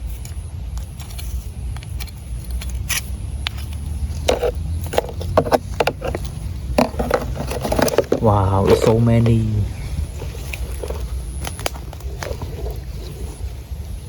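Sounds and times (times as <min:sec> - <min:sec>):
snail shells clicking and scraping: 0:00.0 - 0:13.5
steady low rumble: 0:00.0 - 0:14.0.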